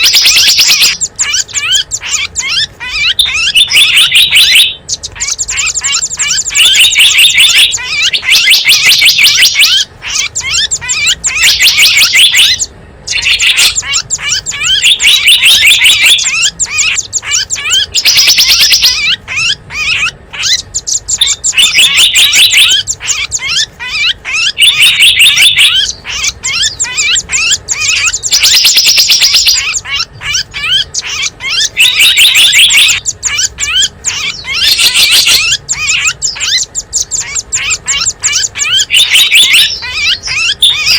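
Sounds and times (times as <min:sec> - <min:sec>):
high-pitched bird chirping trills: 0:00.0 - 0:40.9.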